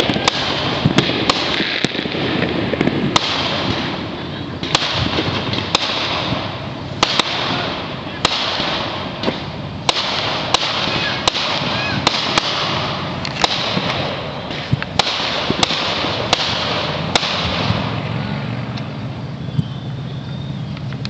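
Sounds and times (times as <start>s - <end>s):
fireworks cracking and banging: 0.0s - 21.0s
steady background hiss: 0.0s - 21.0s.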